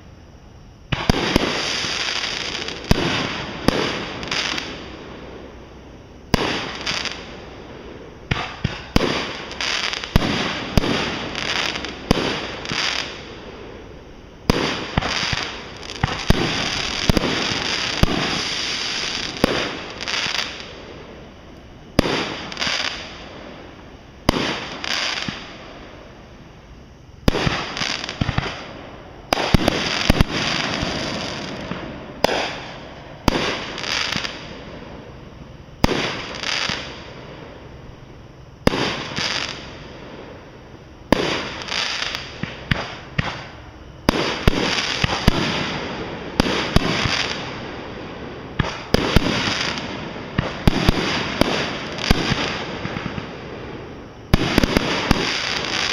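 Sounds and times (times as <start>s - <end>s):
fireworks bangs and crackling: 0.9s - 26.4s, 27.2s - 37.8s, 38.6s - 55.9s.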